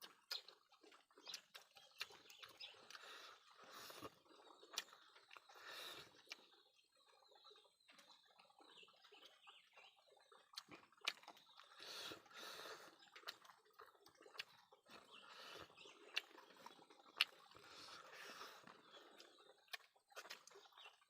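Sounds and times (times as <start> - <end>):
faint chewing with mouth clicks: 0.0 - 21.0.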